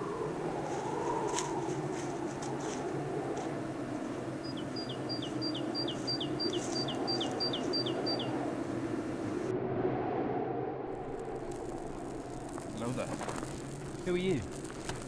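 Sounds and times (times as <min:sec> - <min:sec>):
low background rumble: 0:01.2 - 0:15.0.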